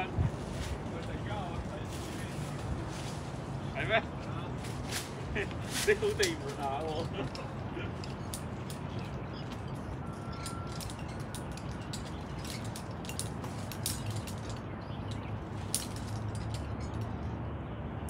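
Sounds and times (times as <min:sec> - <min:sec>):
steady low background noise: 0:00.0 - 0:18.0
climbing gear clinking: 0:00.5 - 0:17.3.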